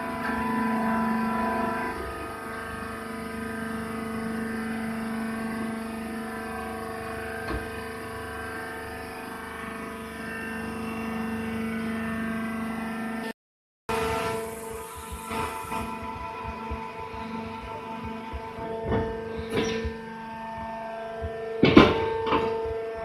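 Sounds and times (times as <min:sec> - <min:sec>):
machine hum and whine: 0:00.0 - 0:23.0.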